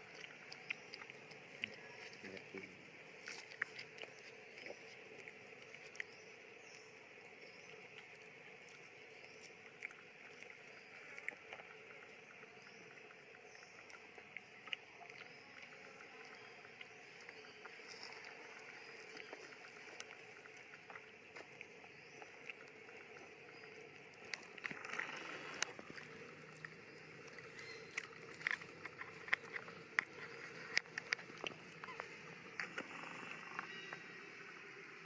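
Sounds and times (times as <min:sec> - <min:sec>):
crackling of dry leaves and twigs: 0:00.0 - 0:34.1
forest background: 0:00.0 - 0:35.0.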